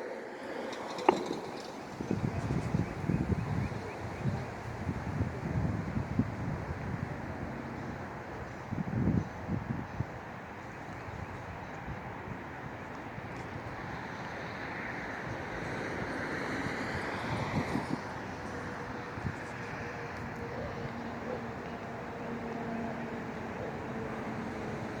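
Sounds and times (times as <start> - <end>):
faint hum of engines: 0.0 - 25.0.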